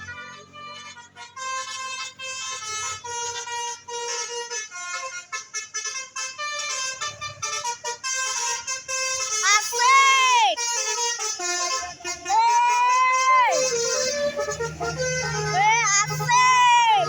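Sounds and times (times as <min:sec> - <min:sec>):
musical bus horn playing: 0:00.0 - 0:17.0.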